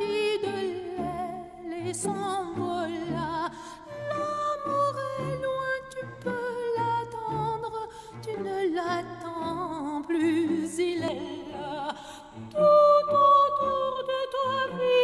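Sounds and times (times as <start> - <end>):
woman singing opera: 0.0 - 15.0.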